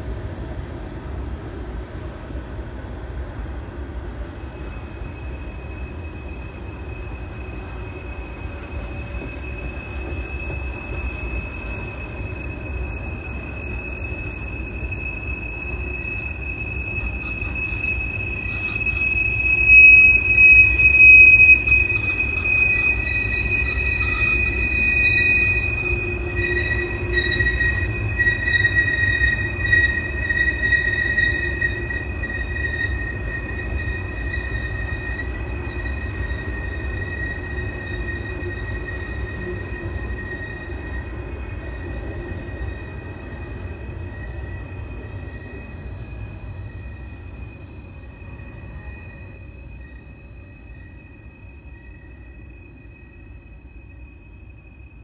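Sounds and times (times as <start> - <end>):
steel wheels squealing on rail: 0.0 - 55.0
train rumbling past: 0.0 - 55.0.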